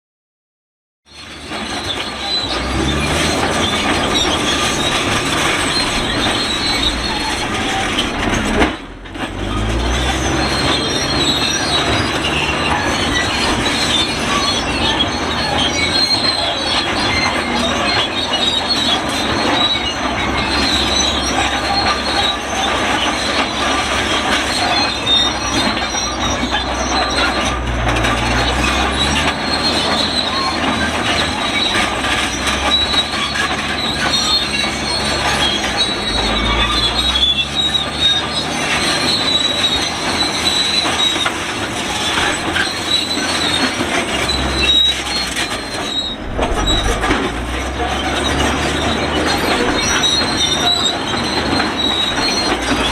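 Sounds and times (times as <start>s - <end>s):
bulldozer squealing and creaking: 1.0s - 52.9s
diesel engine: 1.0s - 52.9s.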